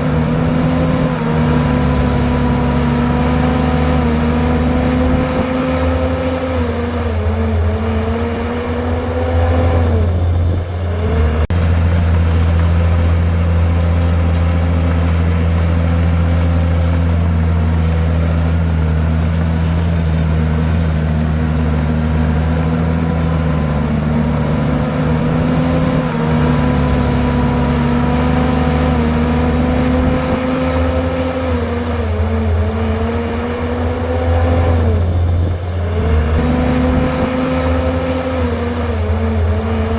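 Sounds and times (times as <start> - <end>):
bulldozer diesel engine: 0.0 - 39.9
rocks and soil being pushed: 0.0 - 39.9.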